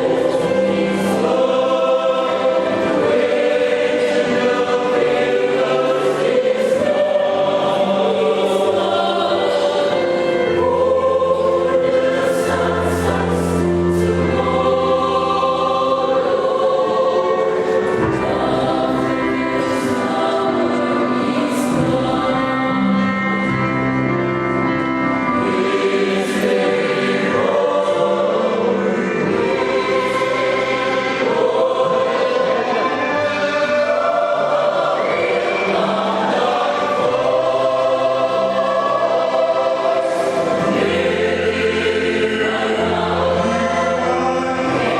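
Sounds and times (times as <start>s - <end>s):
choir singing in parts: 0.0s - 44.9s.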